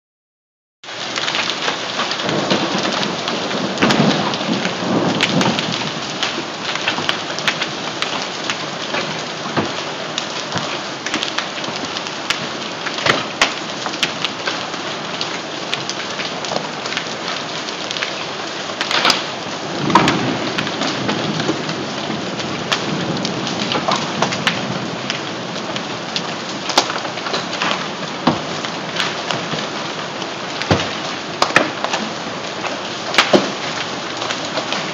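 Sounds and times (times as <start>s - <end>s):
heavy rain: 0.8s - 34.9s
hailstones striking hard surfaces: 0.9s - 34.9s.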